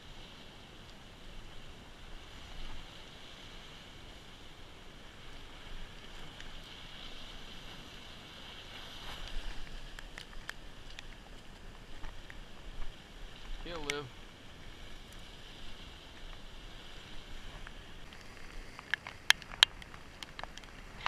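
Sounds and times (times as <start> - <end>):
surf washing against rocks: 0.0 - 21.0.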